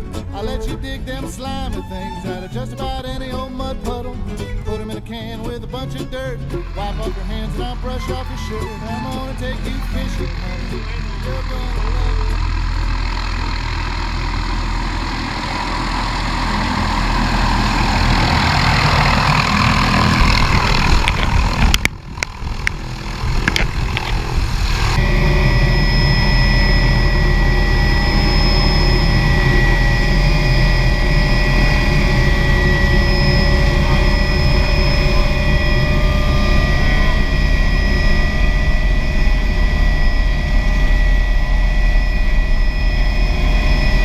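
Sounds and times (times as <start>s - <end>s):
helicopter rotor and engine: 6.4s - 44.0s.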